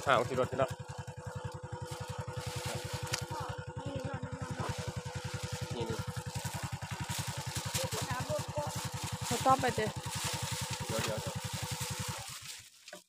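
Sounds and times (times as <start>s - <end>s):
steady hum: 0.0s - 12.2s
vehicle engine idling: 0.0s - 13.0s.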